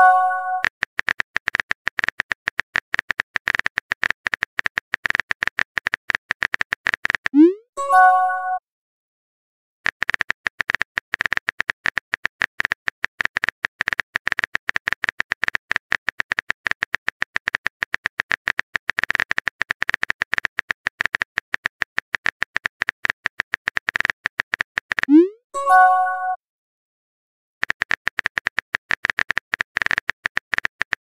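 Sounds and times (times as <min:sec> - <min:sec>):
phone keyboard typing clicks: 0:00.0 - 0:07.4, 0:09.9 - 0:25.2, 0:27.6 - 0:31.0.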